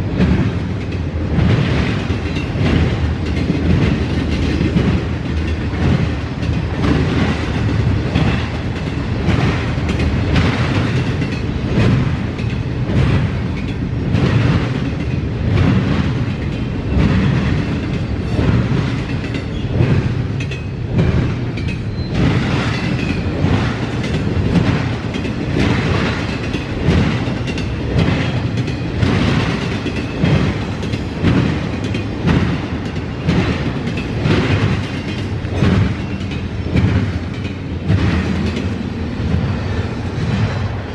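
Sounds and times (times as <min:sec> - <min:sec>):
train low rumble: 0:00.0 - 0:40.9
train wheels clicking over rail joints: 0:00.0 - 0:40.9.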